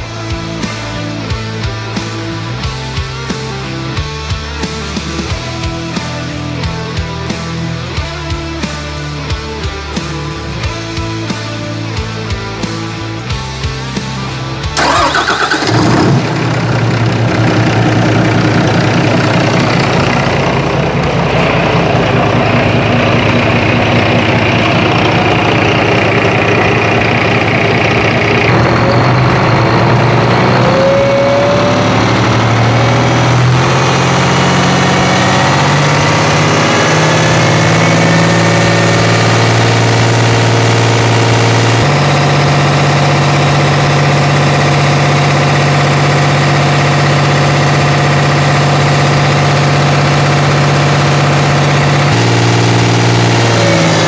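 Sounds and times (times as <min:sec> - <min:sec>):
diesel engine starting and idling: 0:00.0 - 0:54.0.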